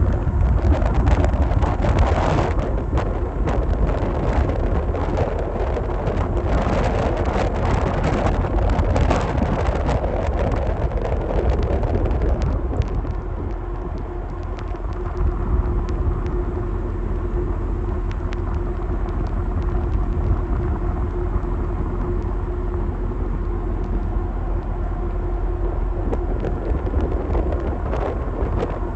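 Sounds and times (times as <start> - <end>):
faint steady hum: 0.0 - 28.9
wind buffeting microphone: 0.0 - 28.9.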